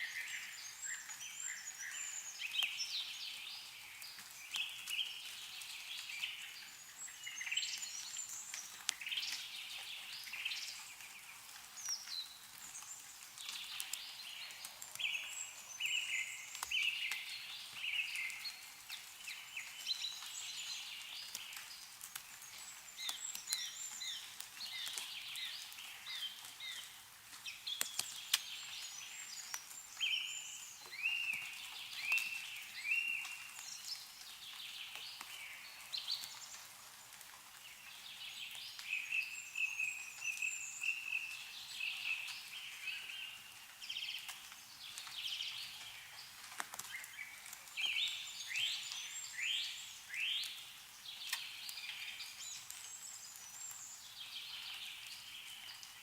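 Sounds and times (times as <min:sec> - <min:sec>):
meltwater dripping: 0:00.0 - 0:56.0
songbirds chirping and trilling: 0:00.0 - 0:56.0.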